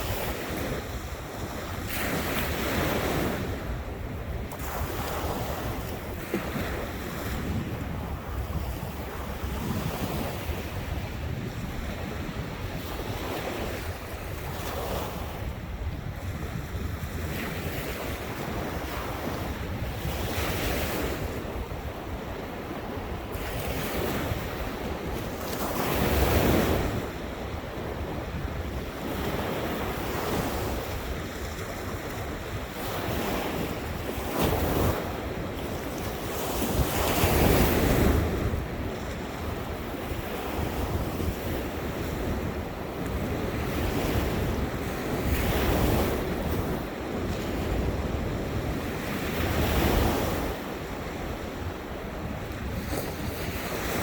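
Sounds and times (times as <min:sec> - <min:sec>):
ocean waves breaking on beach: 0:00.0 - 0:54.0
wind buffeting microphone: 0:00.0 - 0:54.0.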